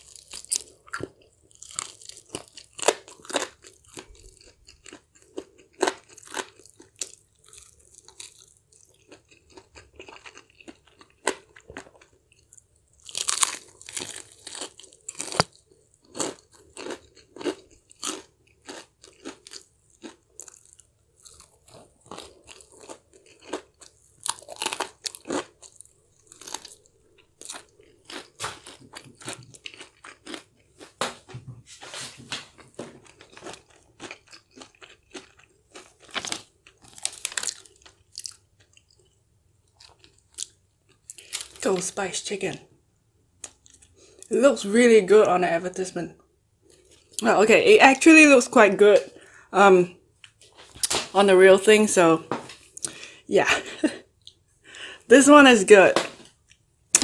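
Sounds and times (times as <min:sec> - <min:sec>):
crunching and chewing fried chicken: 0:00.0 - 0:31.4, 0:32.3 - 0:42.0, 0:42.6 - 0:44.3, 0:46.2 - 0:47.3, 0:49.0 - 0:51.2, 0:52.5 - 0:55.0.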